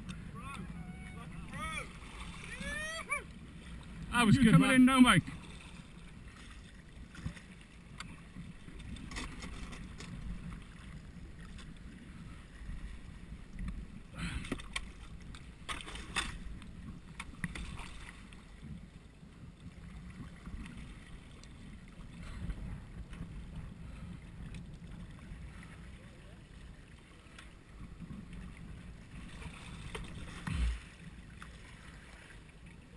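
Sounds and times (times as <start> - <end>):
paddle splashing: 0.0 - 18.7, 19.6 - 32.9
rumble of moving water: 0.0 - 32.9.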